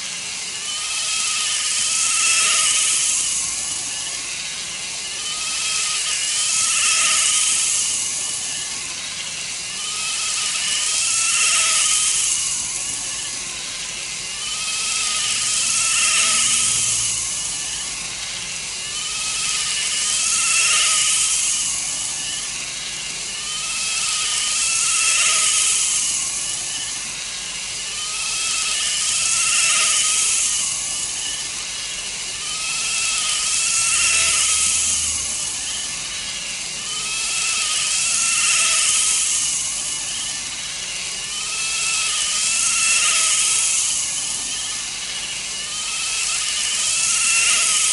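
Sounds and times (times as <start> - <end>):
model train motor whine: 0.0 - 47.9.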